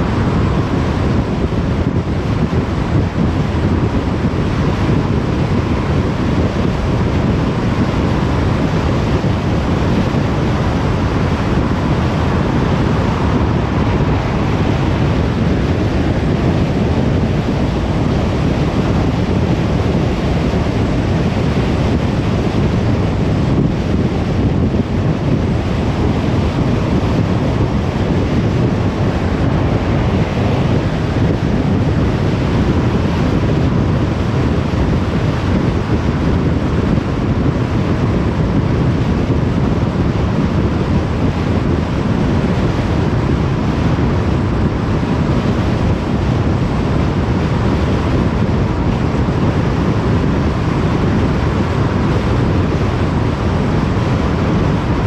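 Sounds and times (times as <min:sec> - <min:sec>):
car tyre and wind noise: 0:00.0 - 0:55.0.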